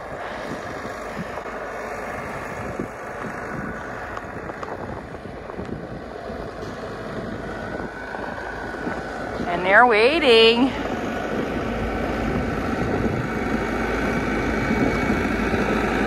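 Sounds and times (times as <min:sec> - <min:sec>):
tractor diesel engine running: 0:00.0 - 0:16.0
wind noise on microphone: 0:00.0 - 0:16.0.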